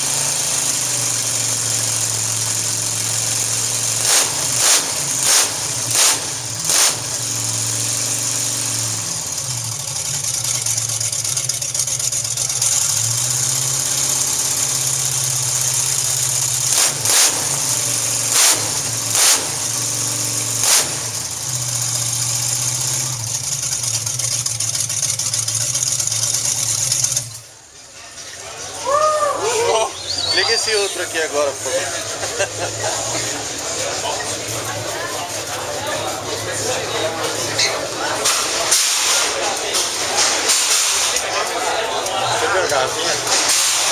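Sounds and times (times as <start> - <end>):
sharp loud engine bursts: 0.0 - 27.4, 30.0 - 43.9
car engine idling: 0.0 - 43.9.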